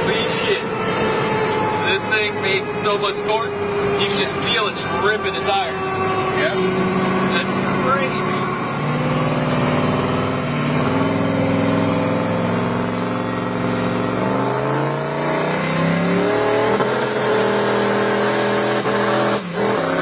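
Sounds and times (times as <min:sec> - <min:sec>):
diesel engine revving hard: 0:00.0 - 0:20.0.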